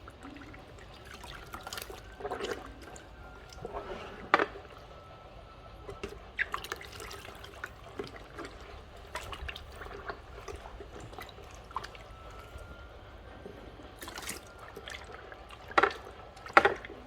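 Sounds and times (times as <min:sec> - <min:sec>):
cloth rinsed in water splashing: 0:00.0 - 0:05.1, 0:05.7 - 0:17.0.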